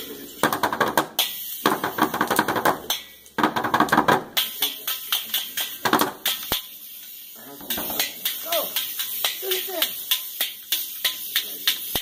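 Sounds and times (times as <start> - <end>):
toy drum kit being beaten: 0.4 - 6.7, 7.6 - 12.0.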